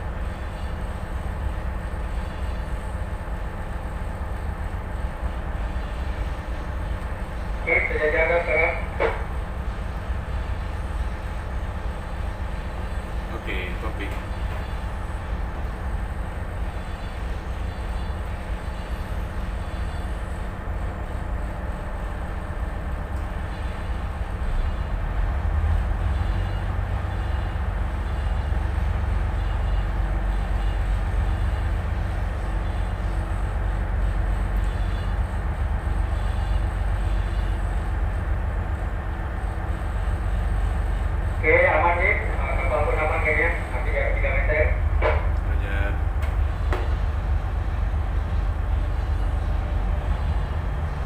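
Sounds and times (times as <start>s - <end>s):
boat diesel engine rumbling: 0.0s - 51.0s.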